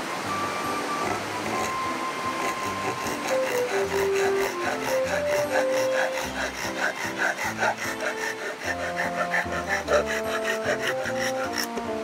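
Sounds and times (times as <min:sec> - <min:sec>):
background music: 0:00.0 - 0:12.0
hand saw cutting wood: 0:01.0 - 0:12.0.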